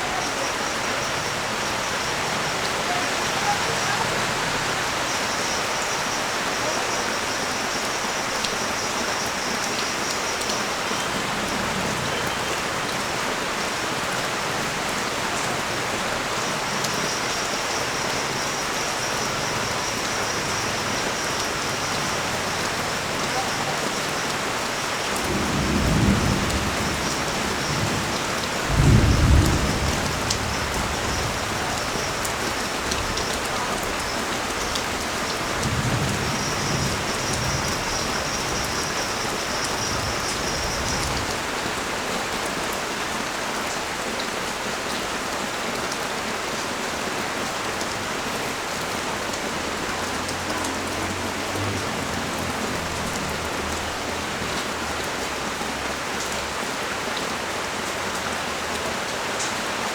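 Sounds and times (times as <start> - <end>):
heavy rain on a street: 0.0 - 59.9.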